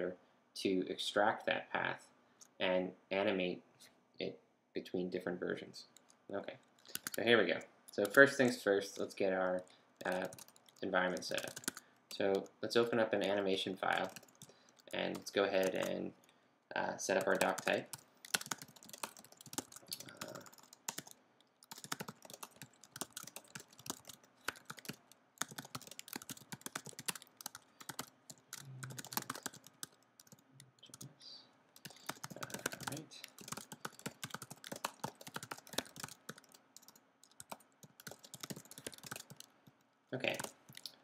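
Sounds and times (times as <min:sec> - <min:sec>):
computer keyboard typing: 0:06.0 - 0:07.3, 0:07.9 - 0:16.3, 0:17.1 - 0:31.1, 0:31.8 - 0:41.0.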